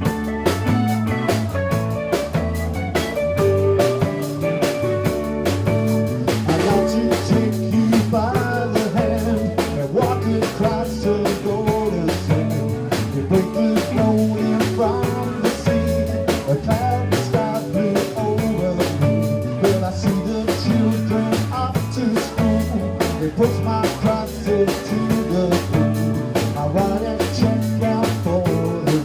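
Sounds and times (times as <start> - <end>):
drum kit beat: 0.0 - 29.0
live band playing: 0.0 - 29.0.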